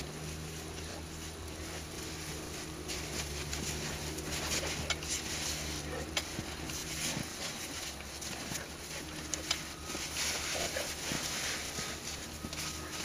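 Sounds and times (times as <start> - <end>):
bears scuffling in snow: 0.0 - 13.0
steady low hum: 0.0 - 13.0.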